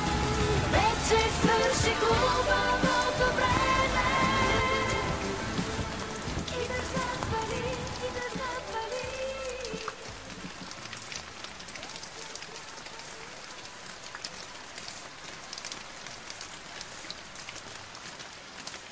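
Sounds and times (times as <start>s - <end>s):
rain on road and shrubs: 0.0s - 18.9s.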